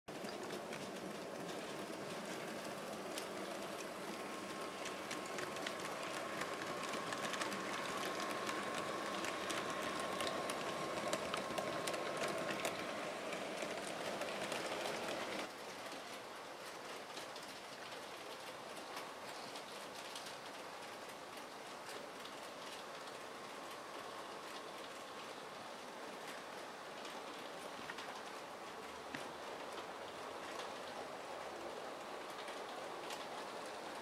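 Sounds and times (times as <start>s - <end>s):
faint motor whine: 0.1s - 34.0s
model trains running: 0.1s - 34.0s
wheels clicking over rail joints: 0.1s - 34.0s.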